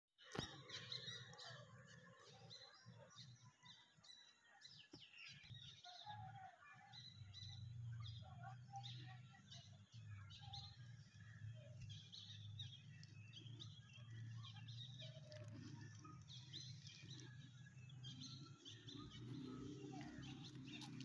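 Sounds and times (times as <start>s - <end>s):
birds chirping faintly: 0.2s - 21.0s.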